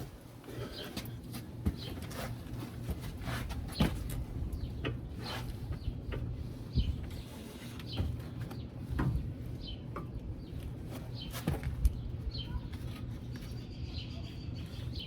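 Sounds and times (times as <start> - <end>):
birds chirping: 0.5 - 2.9, 3.6 - 15.0.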